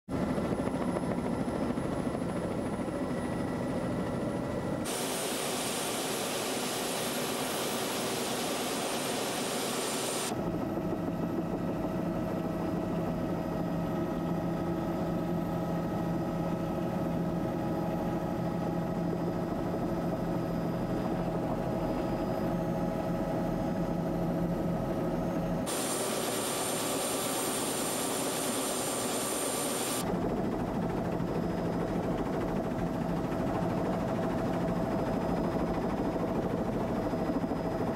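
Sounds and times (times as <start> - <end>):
helicopter engine and rotor: 0.1 - 37.9.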